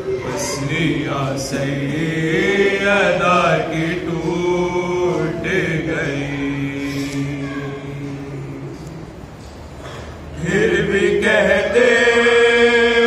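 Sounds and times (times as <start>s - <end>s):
men chanting a lament: 0.1s - 9.2s, 10.3s - 13.0s.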